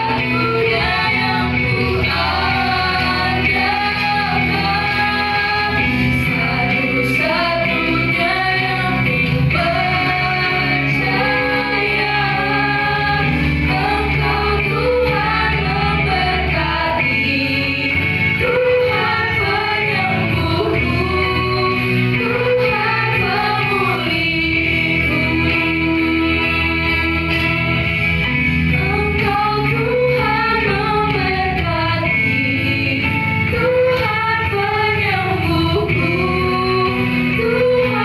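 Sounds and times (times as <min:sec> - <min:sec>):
voices singing together: 0:00.0 - 0:38.0.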